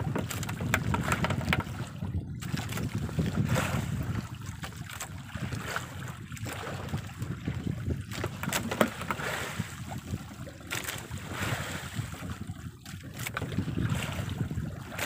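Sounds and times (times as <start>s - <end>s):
sea washing along boat: 0.0s - 15.0s
wind buffeting microphone: 0.0s - 15.0s.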